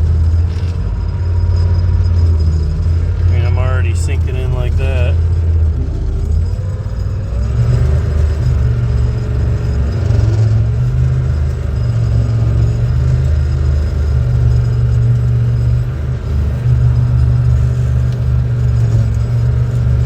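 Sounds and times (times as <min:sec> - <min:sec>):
tractor diesel engine running hard: 0:00.0 - 0:20.0.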